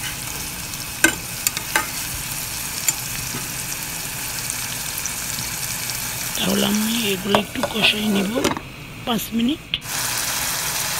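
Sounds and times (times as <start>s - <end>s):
masala sizzling in hot oil: 0.0s - 10.9s.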